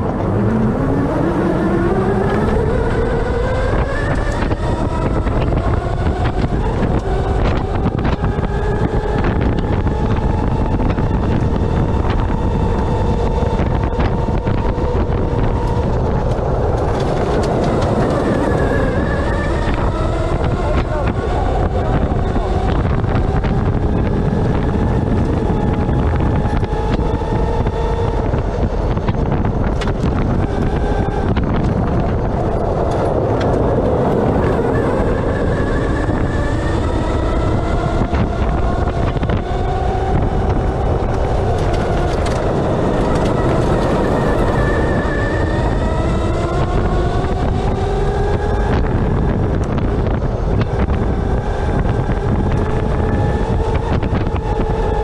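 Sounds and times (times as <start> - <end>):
electric motor whine: 0.0 - 55.0
wind and tyre rumble: 0.0 - 55.0.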